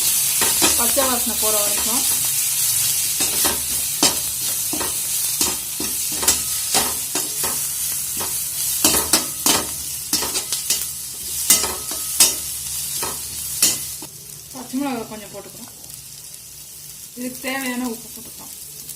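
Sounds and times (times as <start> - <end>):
oil sizzling: 0.0 - 18.9.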